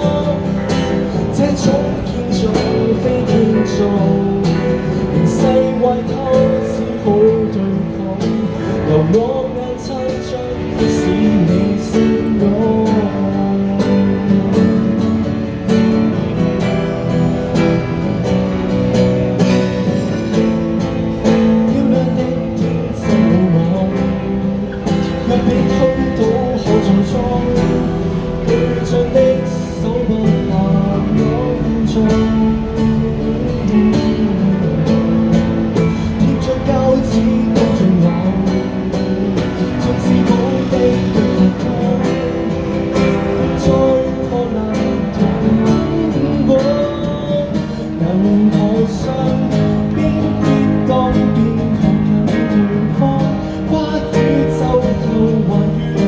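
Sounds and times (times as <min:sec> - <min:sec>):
picked guitar melody: 0:00.0 - 0:56.0
strummed acoustic guitar: 0:00.0 - 0:56.0.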